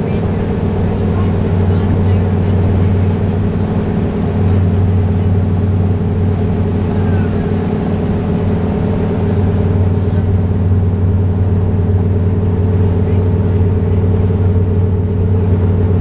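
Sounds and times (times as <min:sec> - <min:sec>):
boat diesel engines droning: 0:00.0 - 0:16.0
wake churning along hull: 0:00.0 - 0:16.0.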